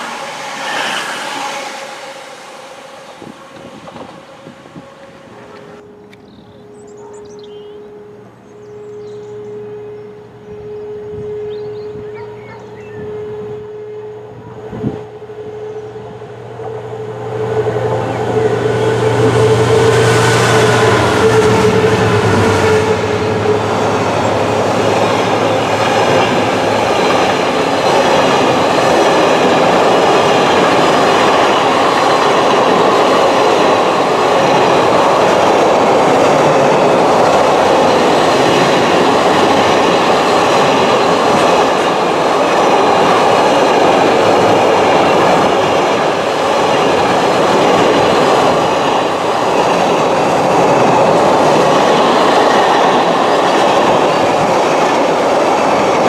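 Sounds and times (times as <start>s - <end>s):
diesel locomotive engine passing: 0.0s - 56.0s.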